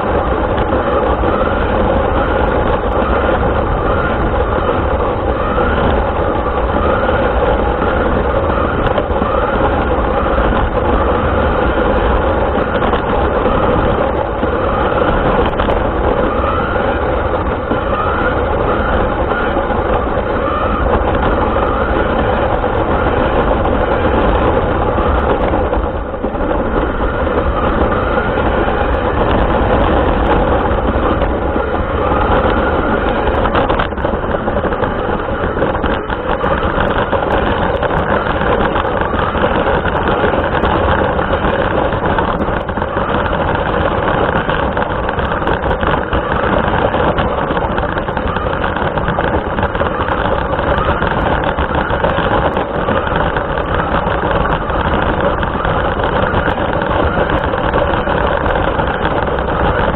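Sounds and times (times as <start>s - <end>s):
wheels rolling: 0.0s - 59.9s.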